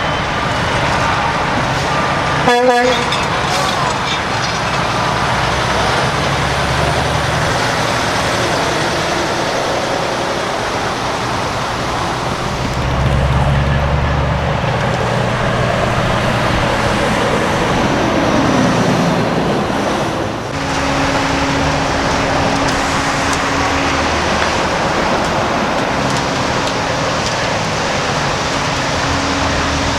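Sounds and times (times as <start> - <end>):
heavy trucks driving past: 0.0 - 29.9
tyre and road noise: 0.0 - 29.9.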